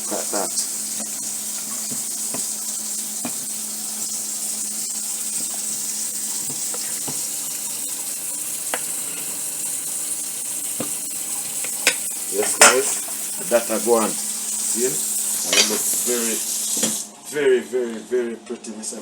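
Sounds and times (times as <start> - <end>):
water running from pipe: 0.0 - 17.2.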